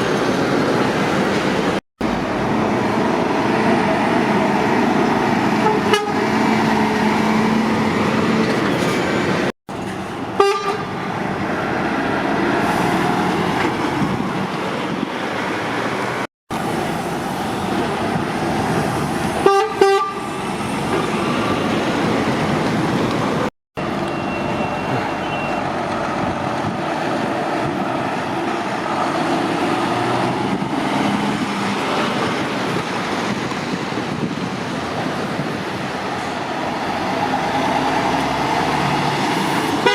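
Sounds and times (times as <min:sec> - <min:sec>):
heavy lorries and traffic: 0:00.0 - 0:39.9.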